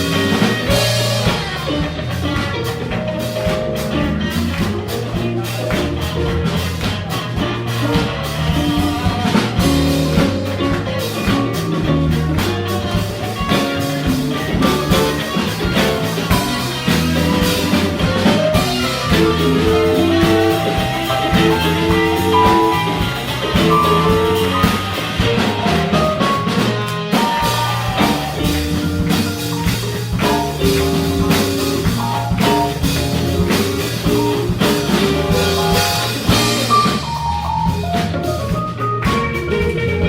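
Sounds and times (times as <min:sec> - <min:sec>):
held melody notes: 0:00.0 - 0:40.0
live funk band playing: 0:00.0 - 0:40.0.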